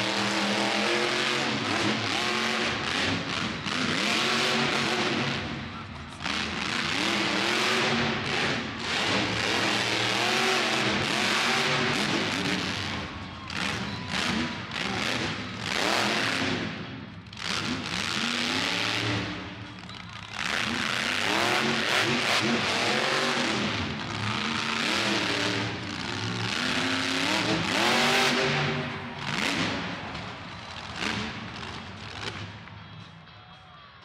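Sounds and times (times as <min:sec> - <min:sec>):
monster truck engine revving: 0:00.0 - 0:32.5.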